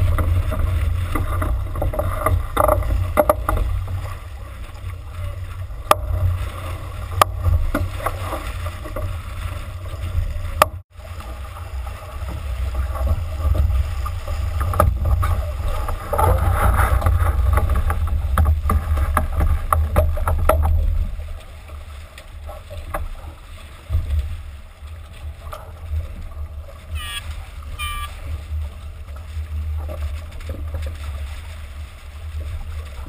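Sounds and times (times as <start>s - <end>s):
water rushing along hull: 0.0s - 33.0s.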